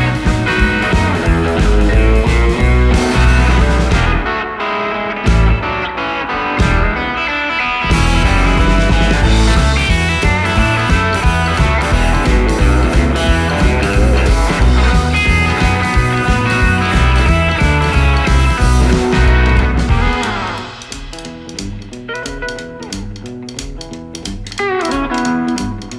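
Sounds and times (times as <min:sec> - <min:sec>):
rock music with electric guitar: 0:00.0 - 0:25.9.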